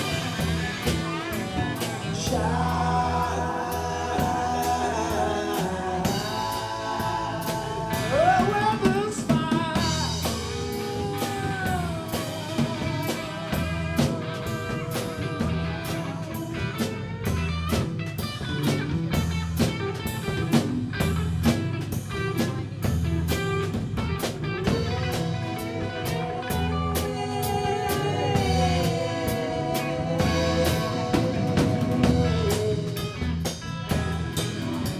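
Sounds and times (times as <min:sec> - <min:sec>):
drum kit steady beat: 0:00.0 - 0:34.9
electric guitar lead: 0:00.0 - 0:34.9.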